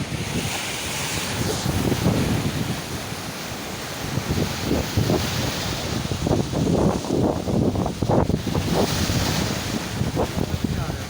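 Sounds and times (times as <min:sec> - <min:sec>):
ocean waves surging: 0:00.0 - 0:11.0
wind buffeting microphone: 0:00.0 - 0:11.0.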